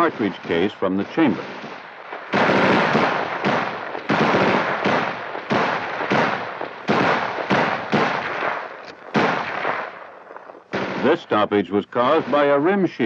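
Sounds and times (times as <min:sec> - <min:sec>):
gunshots: 0:00.0 - 0:13.0.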